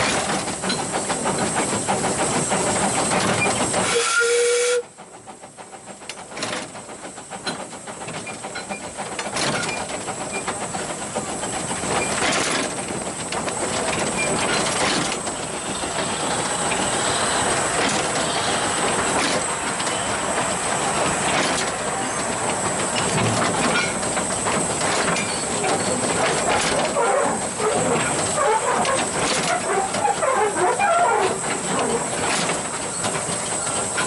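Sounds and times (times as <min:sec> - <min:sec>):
steam hissing: 0:00.0 - 0:34.0
train wheels clattering on rails: 0:00.0 - 0:34.0.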